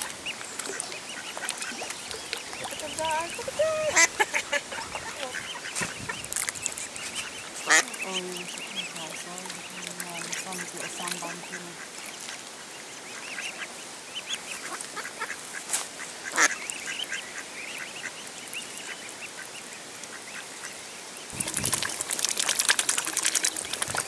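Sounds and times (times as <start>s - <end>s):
cygnets peeping: 0.0s - 15.6s, 16.2s - 22.5s
swan splashing in water: 0.0s - 19.5s, 21.3s - 24.0s.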